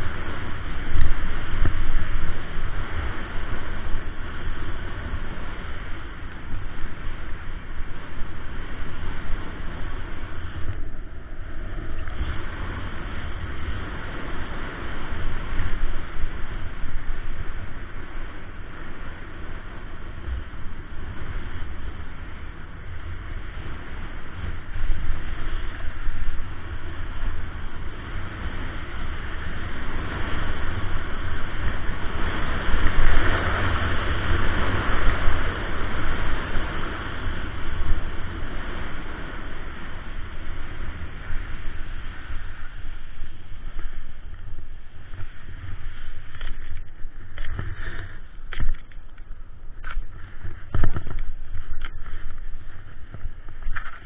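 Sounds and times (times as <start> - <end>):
snowboard scraping on snow: 0.0 - 54.0
wind buffeting microphone: 0.0 - 54.0.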